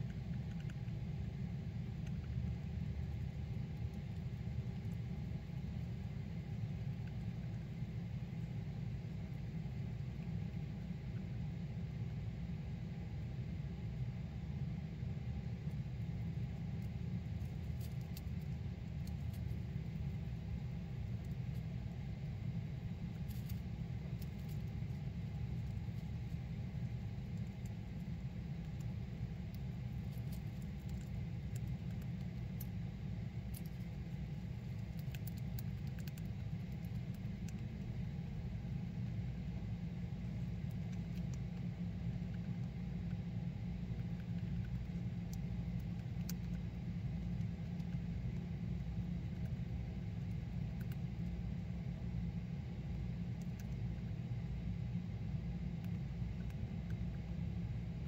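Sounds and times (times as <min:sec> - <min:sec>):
hamster gnawing wooden stick: 0:00.0 - 0:12.0, 0:14.6 - 0:58.0
steady low rumble: 0:00.0 - 0:58.0.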